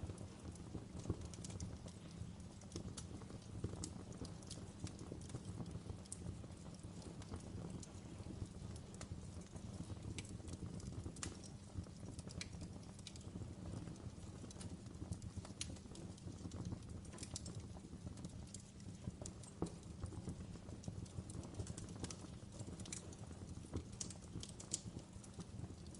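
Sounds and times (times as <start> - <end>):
low rumble of burning: 0.0 - 25.9
wood fire crackling: 0.0 - 25.9.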